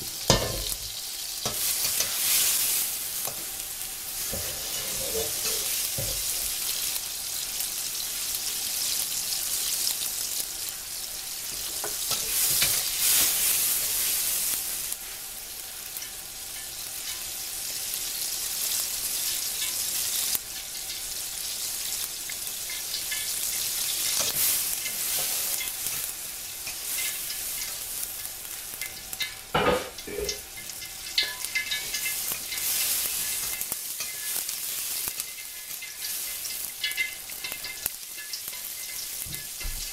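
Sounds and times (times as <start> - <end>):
tomatoes sizzling in hot oil: 0.0 - 39.9.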